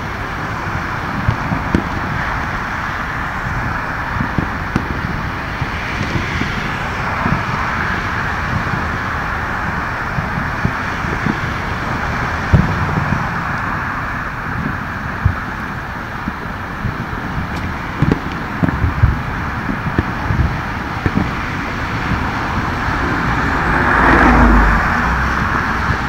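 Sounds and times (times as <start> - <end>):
distant fireworks booms and pops: 0.0 - 26.0
steady wash of noise: 0.0 - 26.0.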